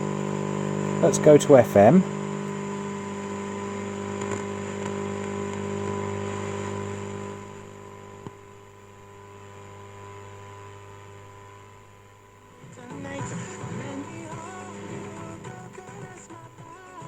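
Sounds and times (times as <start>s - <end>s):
radio mains hum with hiss: 0.0s - 17.0s.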